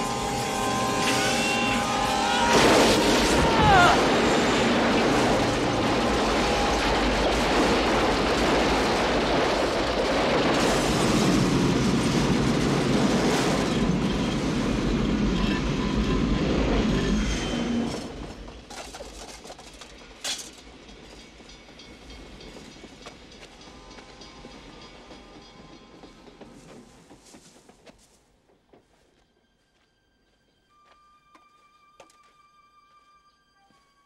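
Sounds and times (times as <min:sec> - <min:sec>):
train rumbling with wheel clatter: 0:00.0 - 0:29.7.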